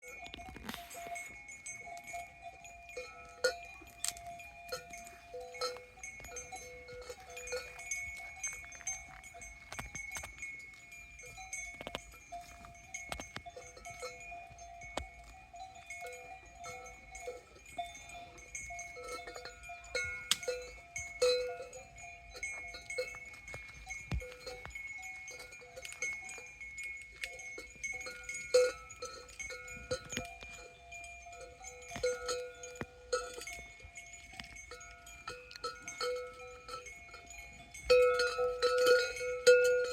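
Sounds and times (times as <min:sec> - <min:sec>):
cow bells clanking: 0:00.0 - 0:39.9.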